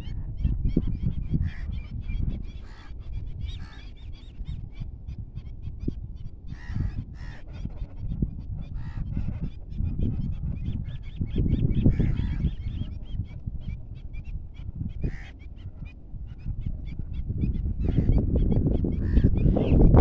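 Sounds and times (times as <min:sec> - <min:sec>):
waterbirds calling: 0:00.0 - 0:20.0
wind rumbling on microphone: 0:00.0 - 0:20.0.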